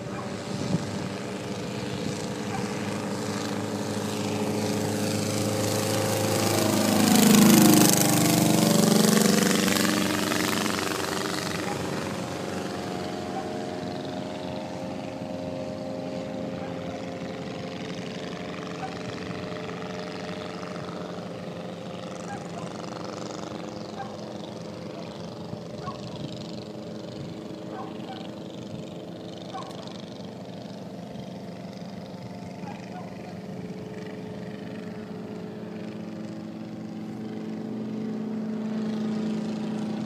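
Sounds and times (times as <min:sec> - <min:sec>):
propeller aircraft engine drone: 0:00.0 - 0:40.0.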